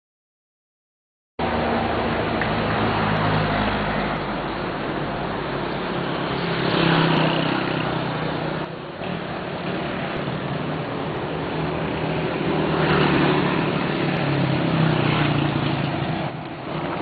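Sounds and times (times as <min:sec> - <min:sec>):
vehicles passing: 0:01.4 - 0:17.0.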